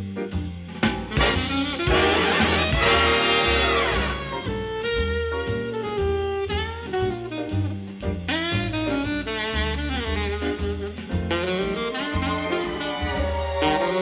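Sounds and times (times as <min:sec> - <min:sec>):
drums: 0:00.0 - 0:14.0
jazz saxophone: 0:00.0 - 0:14.0
walking bass line: 0:00.0 - 0:14.0.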